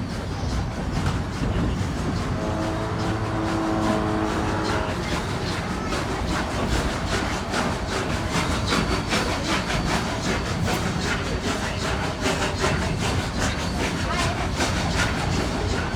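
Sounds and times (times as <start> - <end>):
steam locomotive chuffing: 0.0 - 15.9
train cars rumbling on rails: 0.0 - 15.9.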